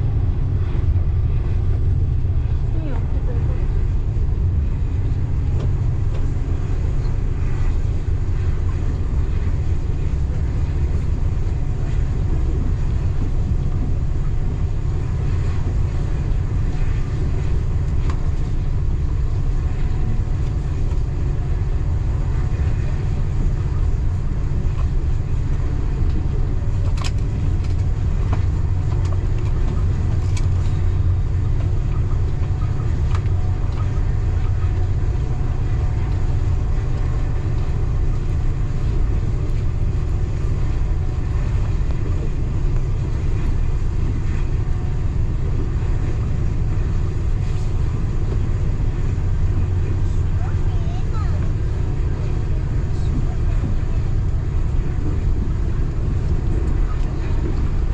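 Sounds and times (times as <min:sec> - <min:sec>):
train rumbling on track: 0:00.0 - 0:57.9.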